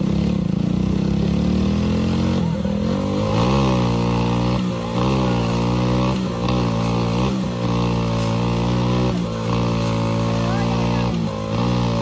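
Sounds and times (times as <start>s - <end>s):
tractor engine labouring: 0.0s - 12.0s.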